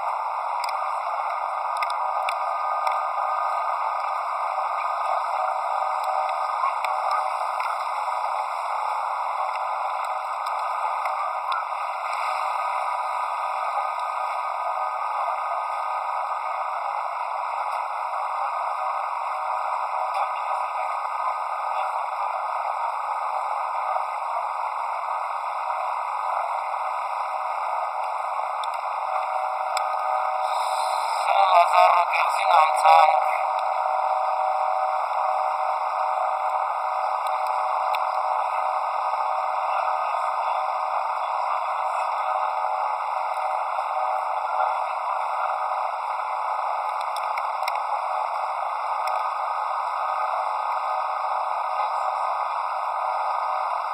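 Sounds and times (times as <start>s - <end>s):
boat engine wind and water rushing: 0.0s - 53.9s.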